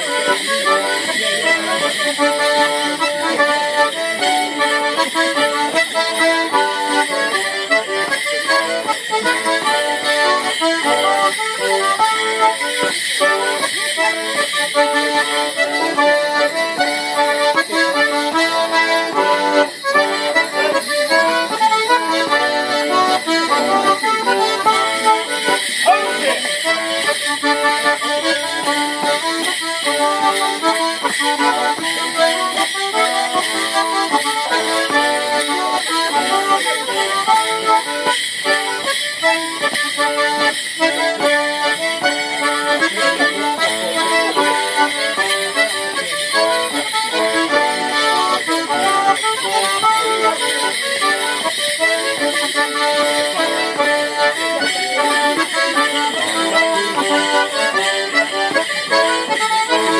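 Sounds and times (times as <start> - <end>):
accordion playing dance tune: 0.0 - 59.9
leg bells jingling: 0.0 - 59.9.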